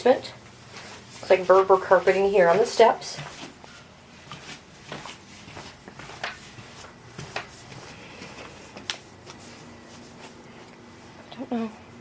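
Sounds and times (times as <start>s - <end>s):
footsteps on carpeted stairs: 0.4s - 10.4s.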